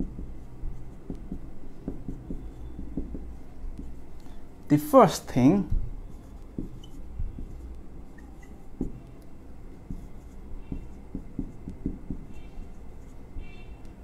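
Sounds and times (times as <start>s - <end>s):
marker writing on whiteboard: 0.0s - 4.3s, 5.4s - 14.0s.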